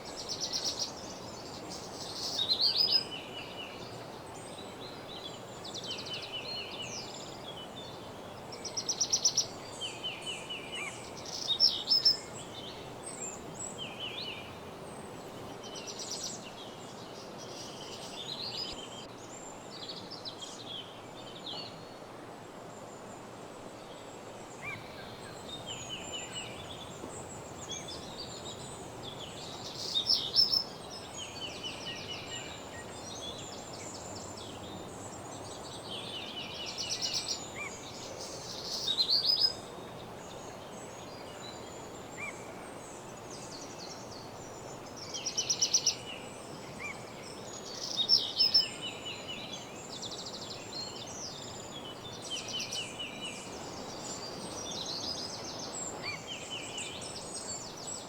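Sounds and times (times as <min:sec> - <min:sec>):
songbirds singing: 0:00.0 - 0:22.1, 0:23.8 - 0:58.0
steady low hiss: 0:00.0 - 0:58.0.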